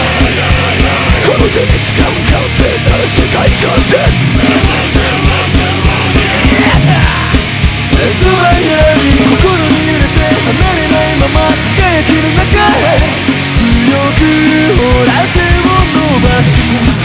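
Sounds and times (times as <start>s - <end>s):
loud punk rock music: 0.0s - 17.0s.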